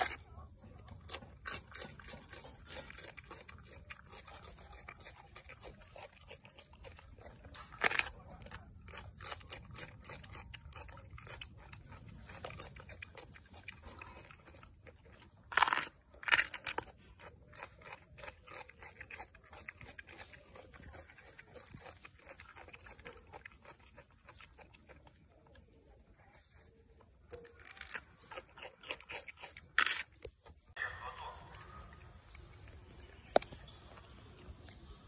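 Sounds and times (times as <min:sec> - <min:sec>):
monkey chewing crunchy pepper: 0:00.0 - 0:35.0.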